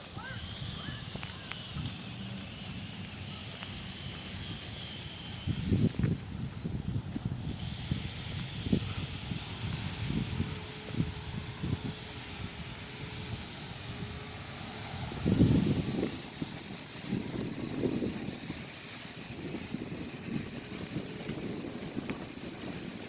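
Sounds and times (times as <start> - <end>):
chainsaw revving: 0.0 - 23.0.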